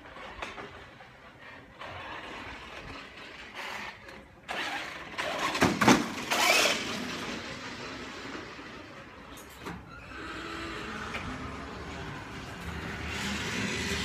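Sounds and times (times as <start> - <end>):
toy car driving past on concrete: 0.0 - 14.0.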